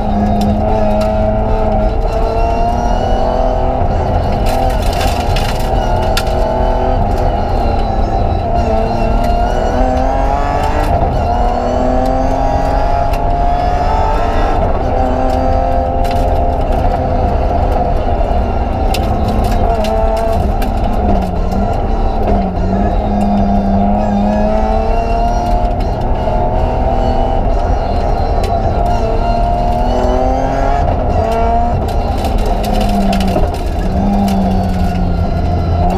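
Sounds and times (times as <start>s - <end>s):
rally car engine revving: 0.0s - 35.9s
road rumble: 0.0s - 35.9s.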